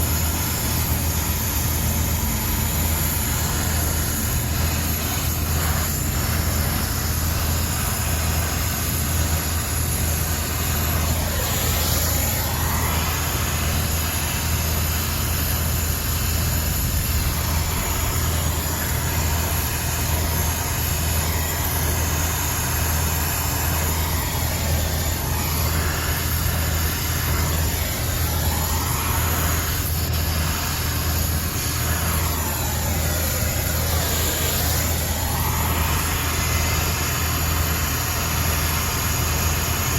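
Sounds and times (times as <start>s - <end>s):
machine drone with low hum: 0.0s - 39.9s.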